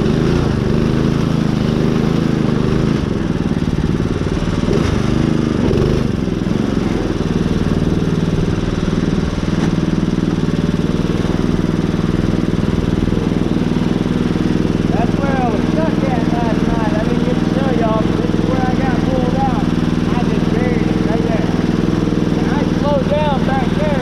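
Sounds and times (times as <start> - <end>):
riding lawn mower engine running: 0.0 - 24.0.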